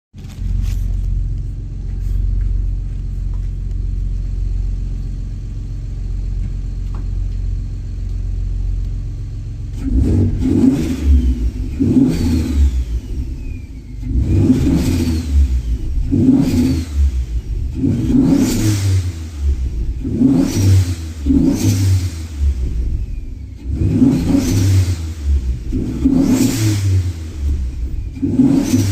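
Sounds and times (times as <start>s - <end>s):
car engine idling and revving: 0.1s - 28.9s.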